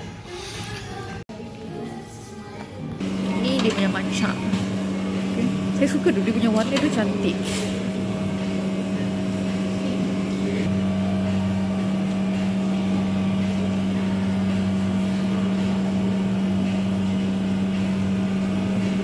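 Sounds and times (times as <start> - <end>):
steady machine hum: 2.8 - 19.0.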